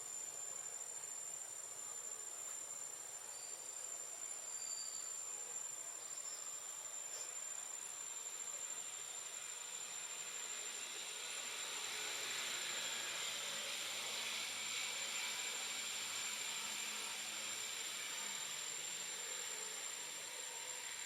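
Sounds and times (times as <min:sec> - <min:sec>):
high insect trill: 0:00.0 - 0:21.0.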